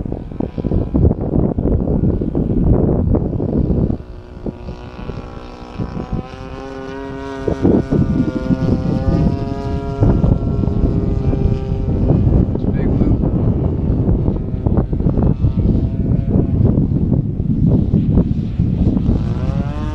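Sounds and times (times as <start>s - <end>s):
model plane engine and propeller: 0.0s - 19.9s
wind buffeting microphone: 0.0s - 19.9s.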